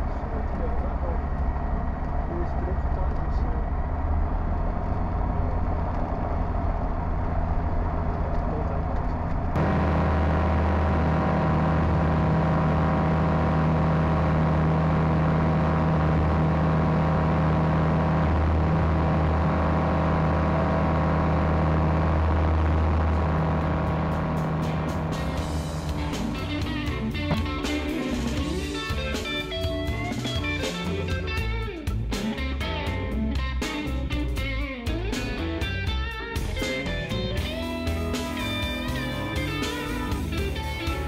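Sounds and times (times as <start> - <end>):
light aircraft engine and propeller: 0.0 - 41.0.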